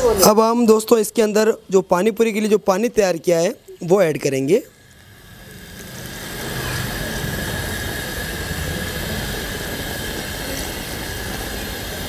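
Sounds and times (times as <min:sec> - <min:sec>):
gas stove roaring: 0:00.0 - 0:12.0.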